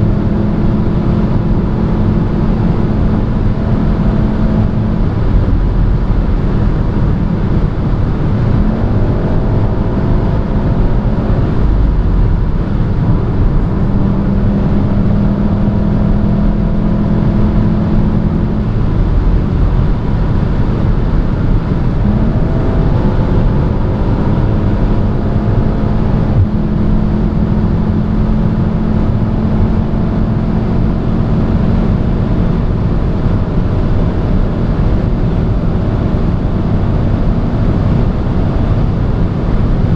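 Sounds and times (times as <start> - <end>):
car engine running: 0.0 - 39.9
road and wind noise: 0.0 - 39.9.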